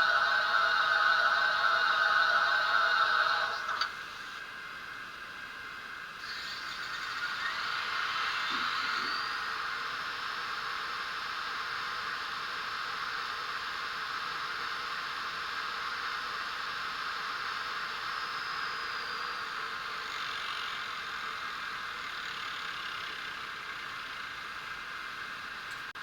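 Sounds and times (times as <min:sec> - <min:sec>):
steam hiss from small speaker: 0:00.0 - 0:04.5, 0:06.1 - 0:22.9.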